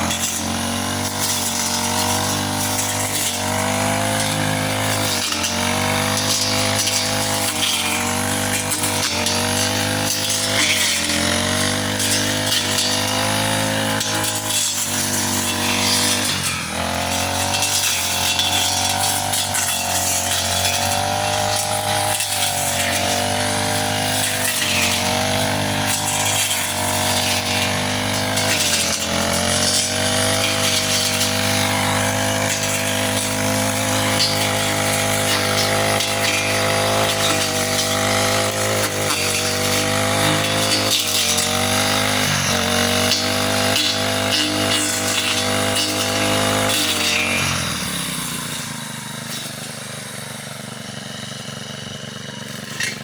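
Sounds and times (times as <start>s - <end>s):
grass cutter engine running: 0.0s - 53.0s.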